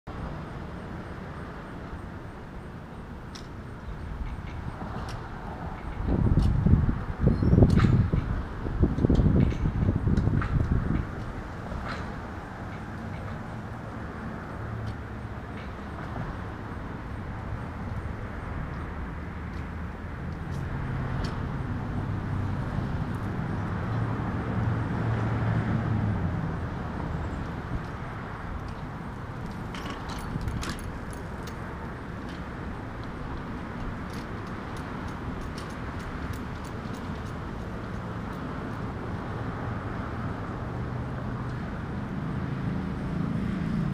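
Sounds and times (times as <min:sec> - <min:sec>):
road traffic rumble: 0:00.1 - 0:43.9.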